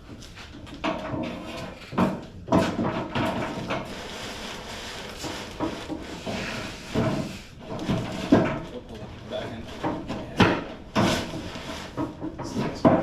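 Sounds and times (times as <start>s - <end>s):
metal clunks and scrapes: 0.0s - 13.0s.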